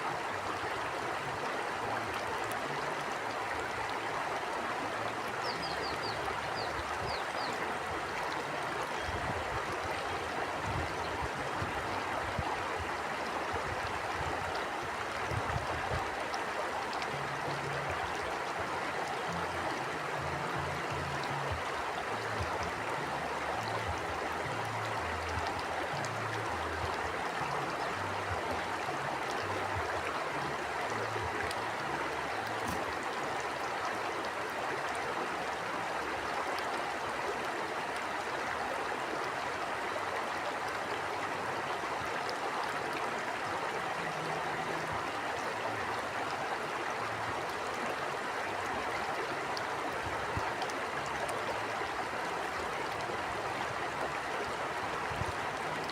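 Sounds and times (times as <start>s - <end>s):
stream flowing: 0.0s - 55.9s.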